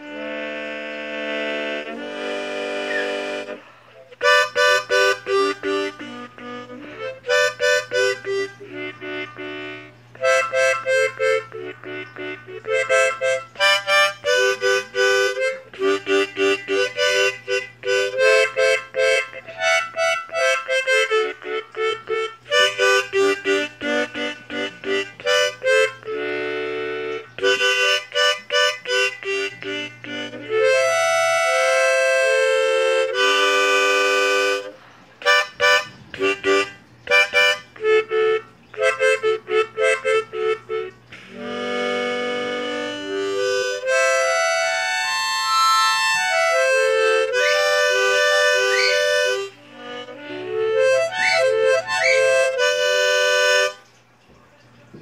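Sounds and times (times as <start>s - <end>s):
harmonica playing: 0.0s - 54.0s.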